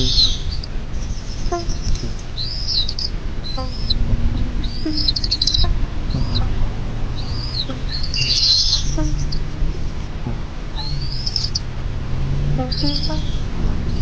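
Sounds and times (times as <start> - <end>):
high-pitched bird calls: 0.0 - 6.6, 7.2 - 9.9, 10.7 - 11.7, 12.6 - 14.0
steady low noise: 0.0 - 14.0.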